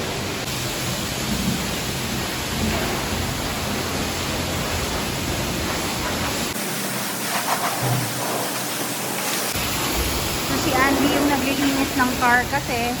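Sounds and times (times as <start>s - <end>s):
water spray hissing: 0.4s - 13.0s.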